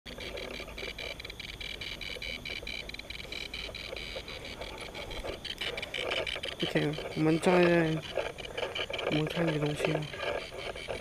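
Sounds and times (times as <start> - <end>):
insects chirping: 0.1 - 11.0.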